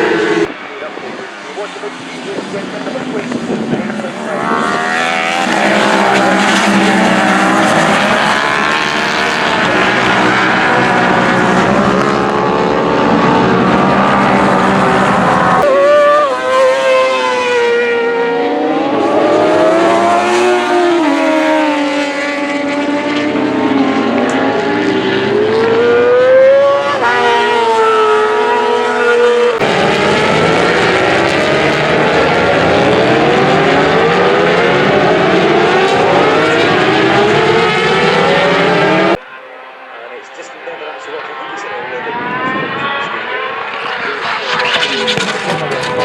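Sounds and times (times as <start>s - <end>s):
racing engines at speed: 0.0s - 46.0s.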